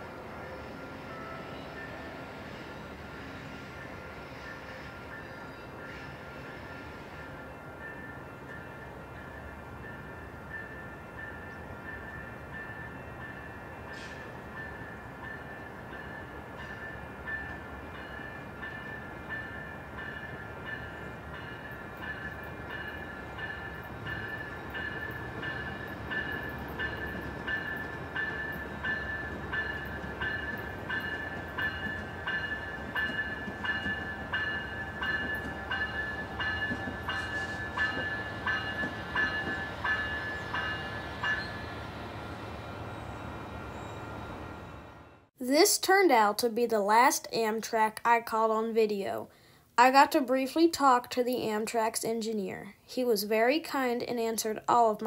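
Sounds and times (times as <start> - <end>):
railroad bell ringing: 0.0 - 45.3
train rumble: 0.0 - 45.3.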